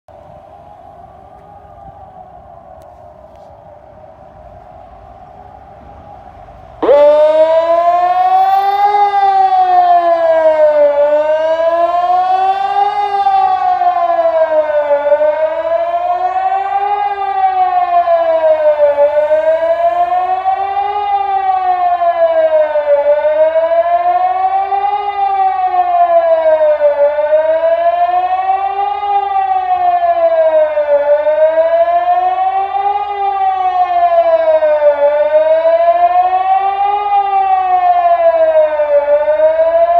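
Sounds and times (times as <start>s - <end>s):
electronic siren wailing: 0.3s - 39.9s.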